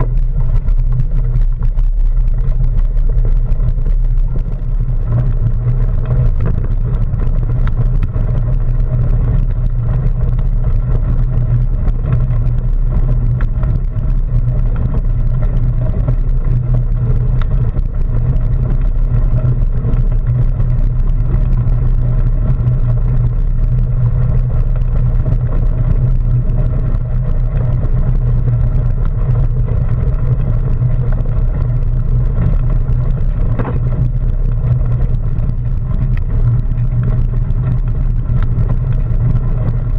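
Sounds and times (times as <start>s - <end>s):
bicycle tyres rolling over gravel: 0.0s - 39.9s
wind buffeting camera: 0.0s - 39.9s.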